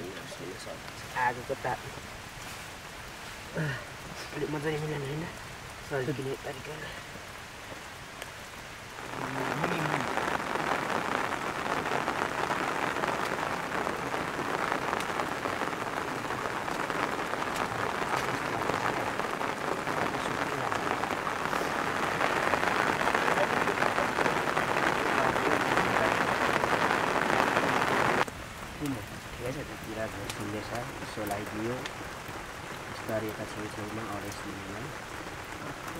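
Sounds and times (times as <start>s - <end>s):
heavy rain patter: 0.0s - 35.9s.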